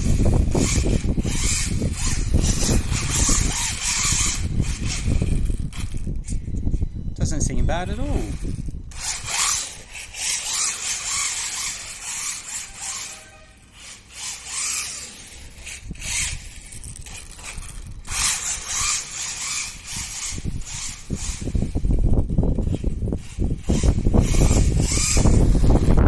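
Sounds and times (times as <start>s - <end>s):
toy car motor whining: 0.0s - 26.0s.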